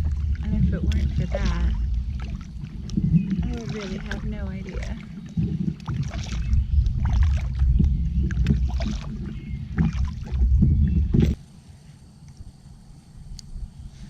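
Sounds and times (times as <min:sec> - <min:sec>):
paddle strokes splashing water: 0:00.0 - 0:11.4
steady low rumble: 0:00.0 - 0:14.0.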